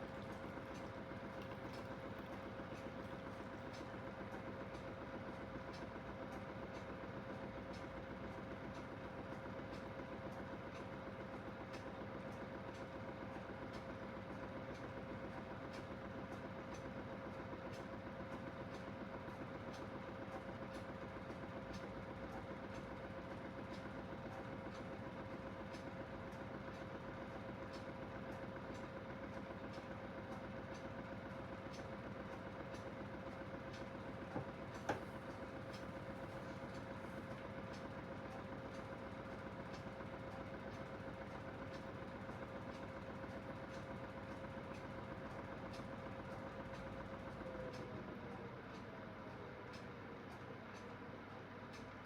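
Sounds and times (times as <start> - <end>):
washing machine motor hum: 0.0 - 52.0.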